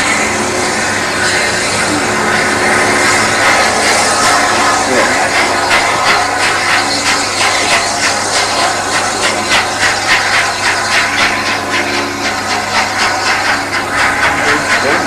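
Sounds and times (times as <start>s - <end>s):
train rhythmic hum: 0.0s - 15.0s.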